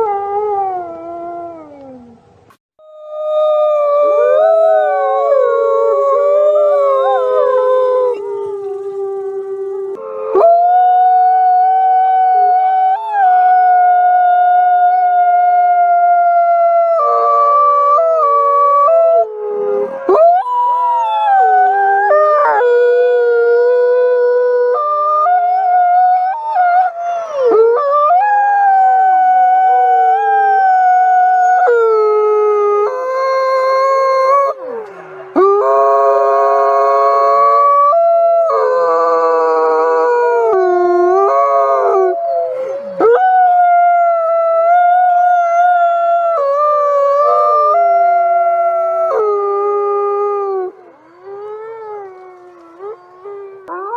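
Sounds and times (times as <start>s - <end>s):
wolves howling: 3.0s - 53.9s.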